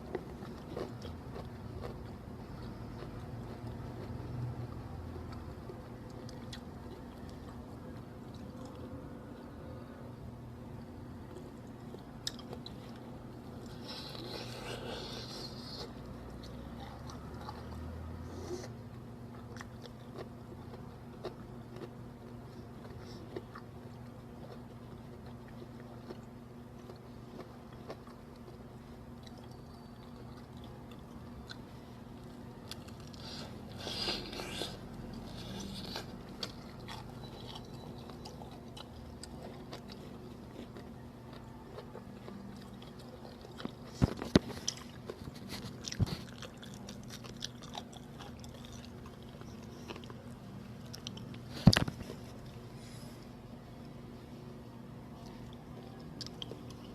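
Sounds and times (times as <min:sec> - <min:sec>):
chewing crunchy fried chicken: 0:00.0 - 0:09.9, 0:10.9 - 0:54.4, 0:55.1 - 0:56.9.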